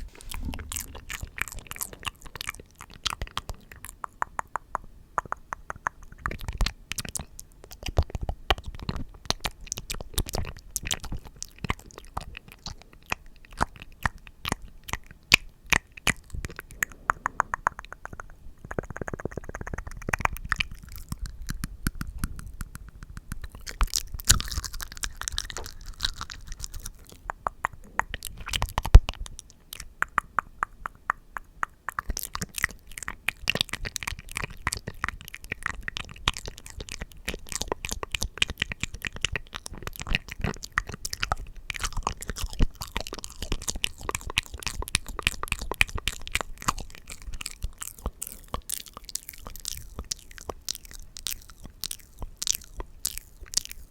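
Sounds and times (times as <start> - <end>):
wet lip and tongue clicks: 0.0 - 53.9.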